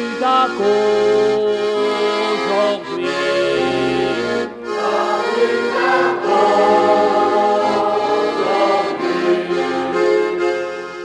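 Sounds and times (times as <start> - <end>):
accordion playing: 0.0 - 11.0
people singing: 0.4 - 10.5.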